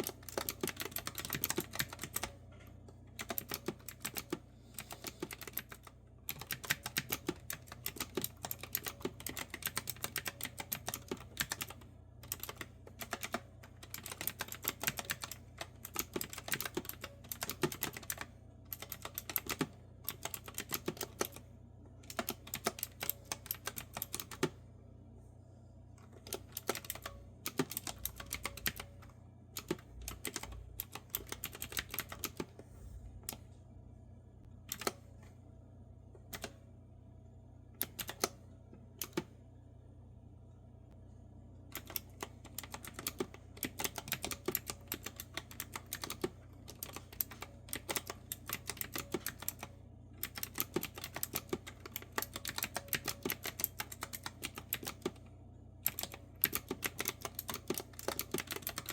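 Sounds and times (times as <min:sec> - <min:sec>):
clicky keyboard typing: 0:00.0 - 0:24.6, 0:26.2 - 0:32.6, 0:34.7 - 0:35.0, 0:36.3 - 0:36.6, 0:37.8 - 0:38.4, 0:39.0 - 0:39.3, 0:41.7 - 0:55.2, 0:55.8 - 0:58.9
steady low hum: 0:00.0 - 0:58.9.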